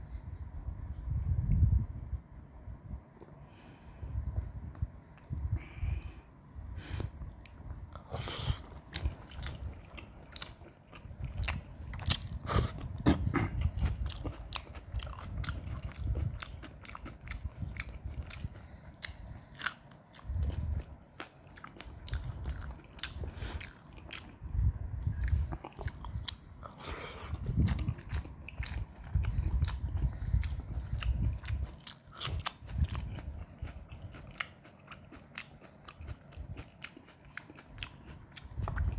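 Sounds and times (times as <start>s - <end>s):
person chewing food: 4.0s - 38.9s.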